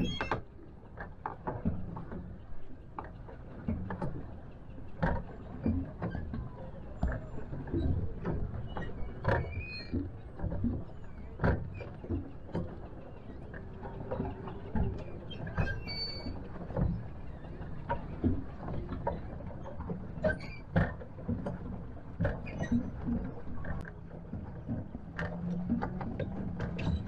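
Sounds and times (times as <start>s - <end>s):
low steady rumble: 0.0s - 27.0s
pedal mechanism knocking and clicking: 0.0s - 27.0s.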